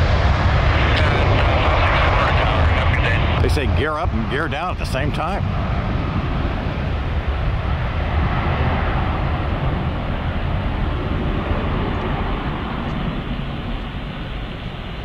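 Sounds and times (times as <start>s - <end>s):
jet engines roaring at takeoff: 0.0s - 15.0s.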